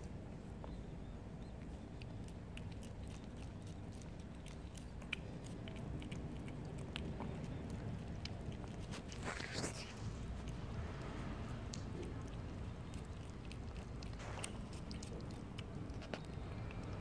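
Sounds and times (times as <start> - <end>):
cat chewing and lapping food: 0.0 - 17.0
low background rumble: 0.0 - 17.0.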